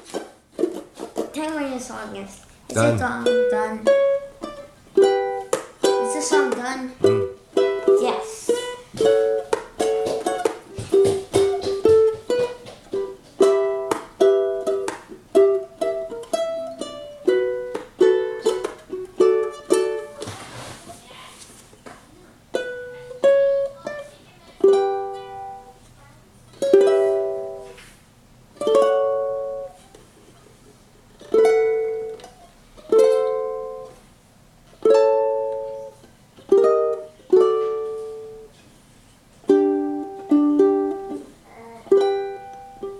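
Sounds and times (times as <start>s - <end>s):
ukulele plucked melody and chords: 0.0s - 1.4s, 2.7s - 20.3s, 22.5s - 25.8s, 26.5s - 27.8s, 28.5s - 29.9s, 31.1s - 34.0s, 34.7s - 38.5s, 39.4s - 42.9s.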